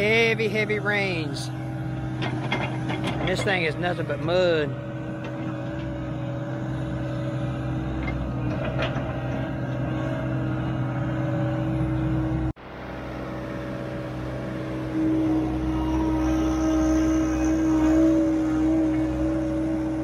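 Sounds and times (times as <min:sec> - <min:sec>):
excavator diesel engine and hydraulics: 0:00.0 - 0:20.0.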